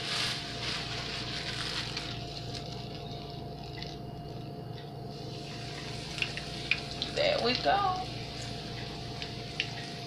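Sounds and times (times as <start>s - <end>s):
low appliance hum: 0.0s - 10.0s.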